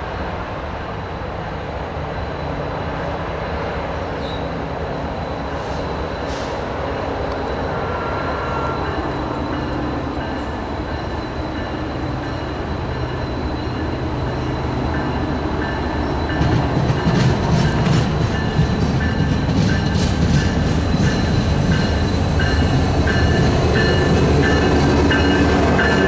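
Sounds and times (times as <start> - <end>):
diesel locomotive engines droning: 0.0 - 26.0.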